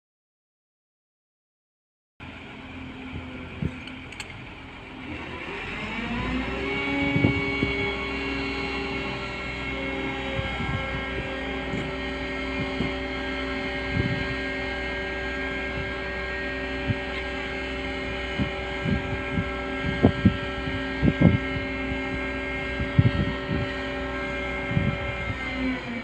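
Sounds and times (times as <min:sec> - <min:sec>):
diesel engine running: 0:02.2 - 0:26.0.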